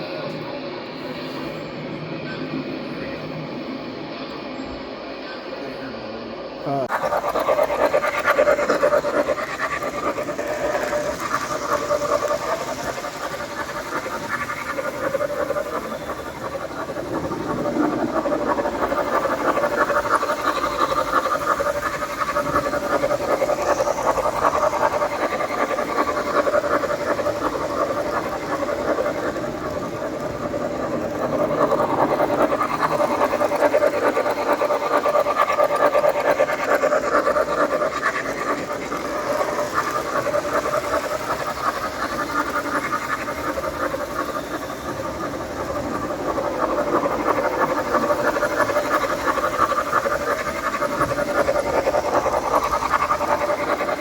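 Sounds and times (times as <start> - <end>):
motor hum: 6.6 - 54.0
model train wheels clattering: 6.8 - 54.0.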